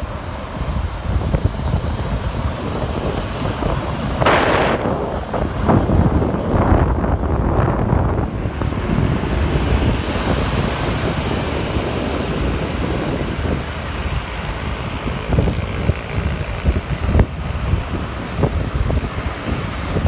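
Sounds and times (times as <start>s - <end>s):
road traffic rumbling past: 0.0s - 20.0s
wind buffeting microphone: 0.0s - 20.0s.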